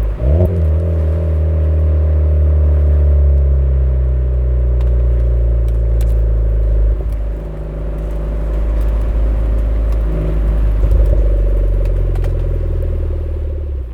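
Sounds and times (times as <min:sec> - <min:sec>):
car engine droning: 0:00.0 - 0:13.9.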